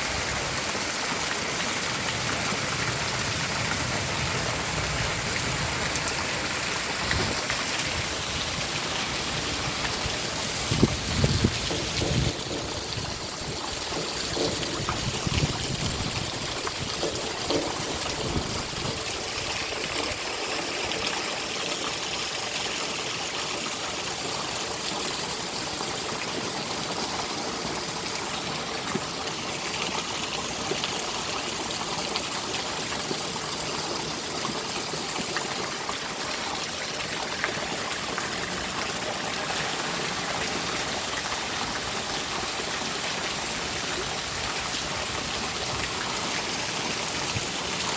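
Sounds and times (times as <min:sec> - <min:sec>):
steady rain: 0:00.0 - 0:47.9
trickling water: 0:00.0 - 0:47.9.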